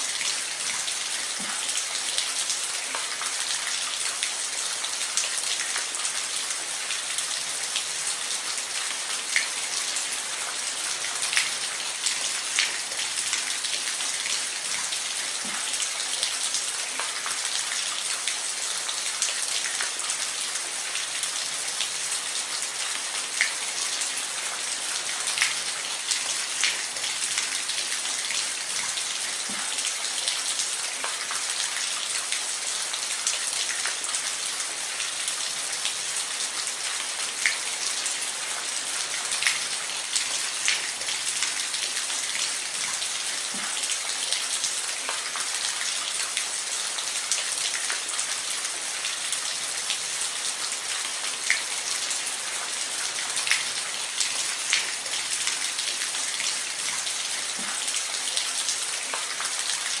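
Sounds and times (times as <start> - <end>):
rain falling on a roof: 0.0 - 60.0.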